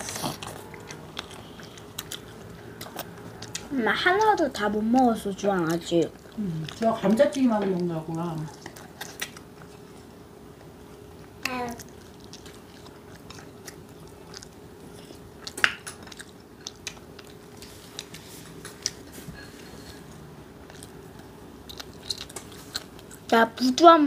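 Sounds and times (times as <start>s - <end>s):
crunchy chewing of fried food: 0.0s - 23.8s
faint steady hum: 0.0s - 24.0s.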